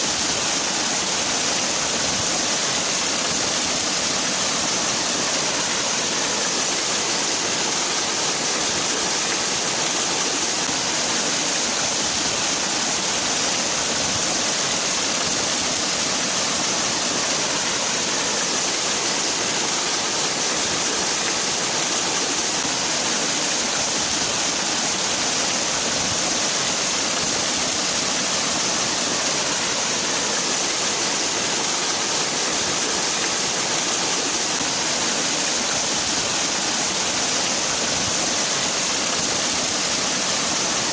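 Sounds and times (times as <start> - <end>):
waterfall splashing: 0.0 - 40.9.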